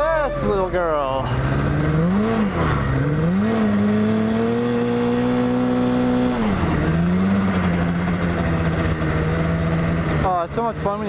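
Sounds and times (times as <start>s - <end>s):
snowmobile engine under throttle: 0.0s - 11.0s.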